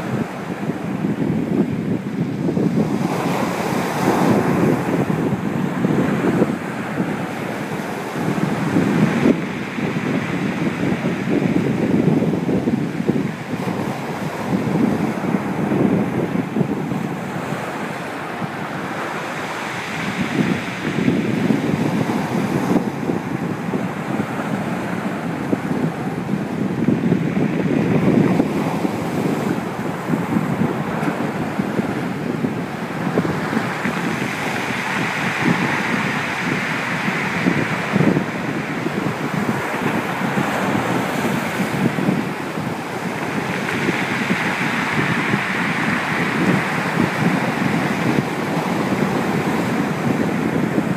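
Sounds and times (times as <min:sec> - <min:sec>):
waves breaking against sea wall: 0:00.0 - 0:50.9
wind buffeting microphone: 0:00.0 - 0:50.9.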